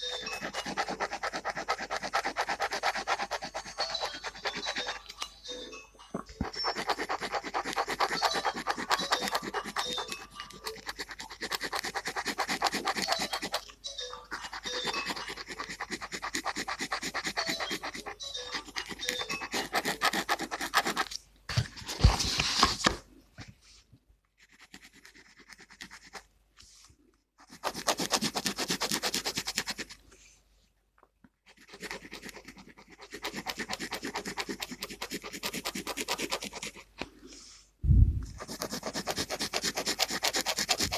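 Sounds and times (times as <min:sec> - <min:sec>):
pen scribbling on paper: 0:00.0 - 0:05.3, 0:06.2 - 0:23.0, 0:24.4 - 0:26.3, 0:27.4 - 0:30.0, 0:31.5 - 0:37.0, 0:38.2 - 0:40.9.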